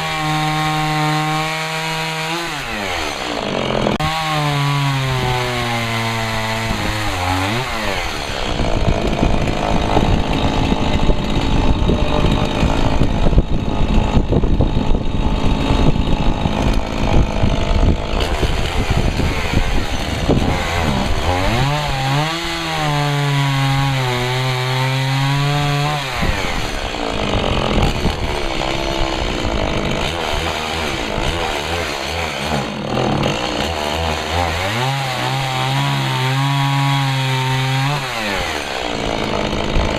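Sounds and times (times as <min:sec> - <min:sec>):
chainsaw engine running free: 0:00.0 - 0:39.9
chainsaw sawing wood: 0:00.0 - 0:39.9.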